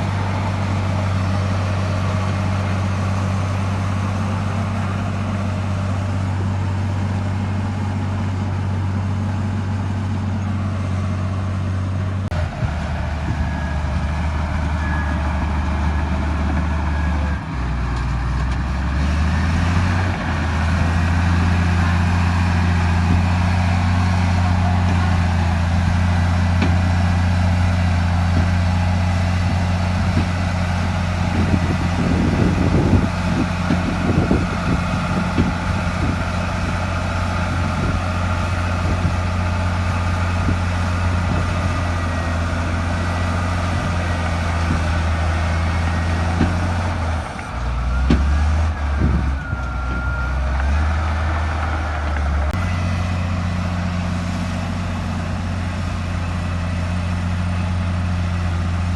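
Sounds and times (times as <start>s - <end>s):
bulldozer diesel engine droning: 0.0s - 58.9s.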